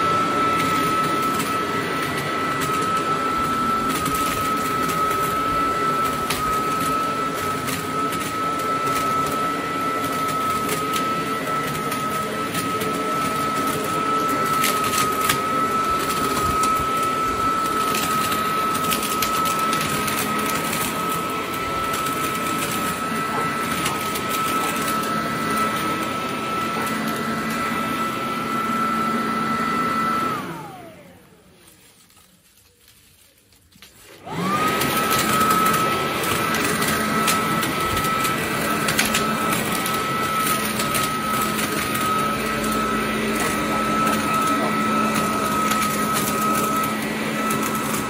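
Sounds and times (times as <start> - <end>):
leaf blower motor whine: 0.0 - 48.0.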